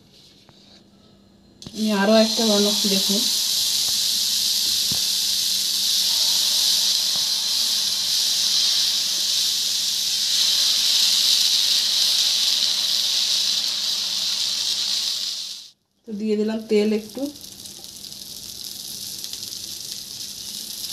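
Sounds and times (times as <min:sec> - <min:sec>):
batter hissing on hot griddle: 0:01.7 - 0:15.8, 0:16.9 - 0:20.9.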